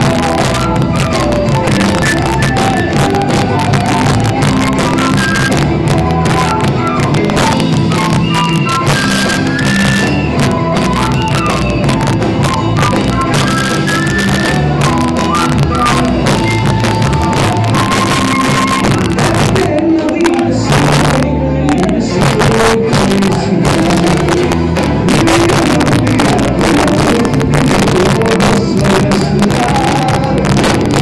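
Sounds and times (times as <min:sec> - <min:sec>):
driving drum beat: 0:00.0 - 0:31.0
stepping dance melody: 0:00.0 - 0:31.0.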